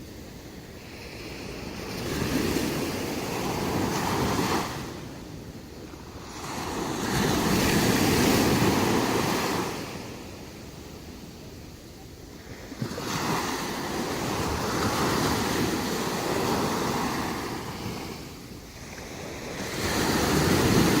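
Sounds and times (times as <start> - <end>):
sea waves breaking on beach: 0.8 - 5.2, 5.9 - 11.2, 12.4 - 21.0.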